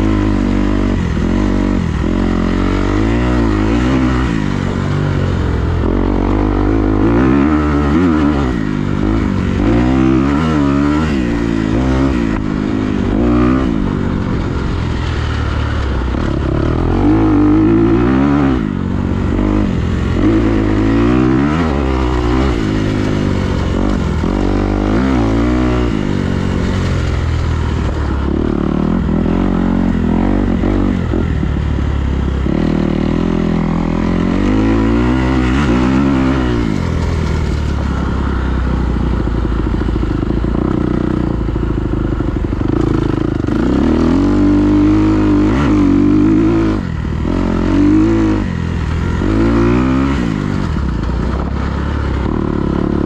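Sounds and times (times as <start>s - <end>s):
engine revving: 0.0s - 53.0s
steady low drone: 0.0s - 53.0s.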